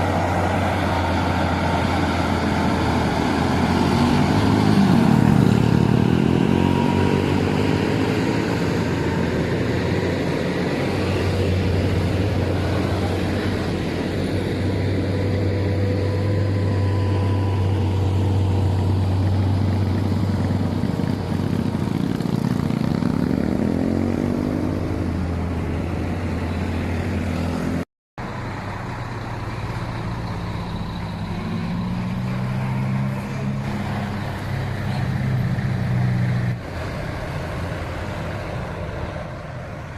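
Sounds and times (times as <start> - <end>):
heavy truck engines climbing: 0.0 - 39.9
vehicles passing by: 0.0 - 39.9.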